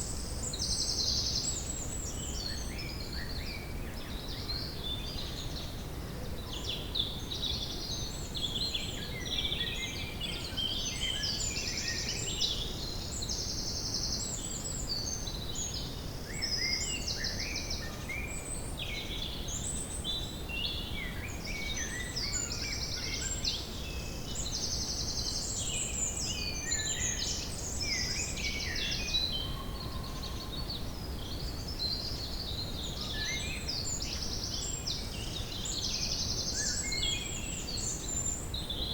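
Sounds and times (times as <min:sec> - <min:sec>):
low background noise: 0:00.0 - 0:38.9.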